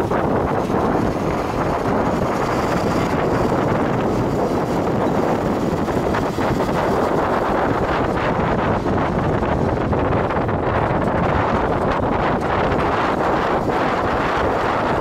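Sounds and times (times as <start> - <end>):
vehicle running noise: 0.0 - 15.0
wind rushing over microphone: 0.0 - 15.0.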